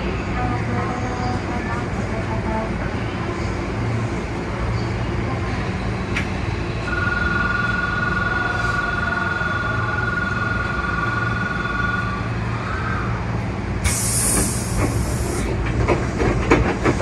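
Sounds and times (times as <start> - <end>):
train humming: 0.0 - 17.0.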